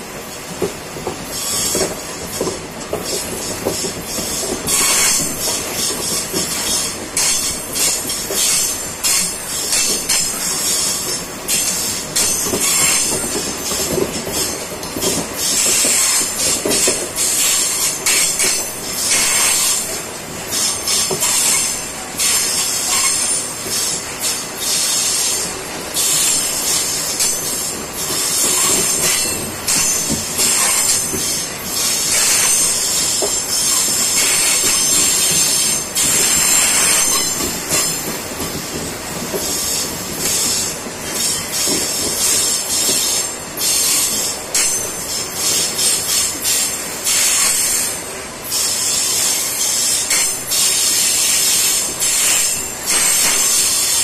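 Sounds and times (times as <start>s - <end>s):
train wagons rolling: 0.0s - 54.0s
wheels screeching on rails: 0.2s - 54.0s.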